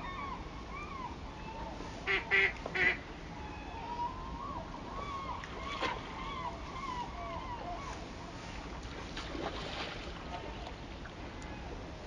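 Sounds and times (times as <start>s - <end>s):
river noise: 0.0s - 12.0s.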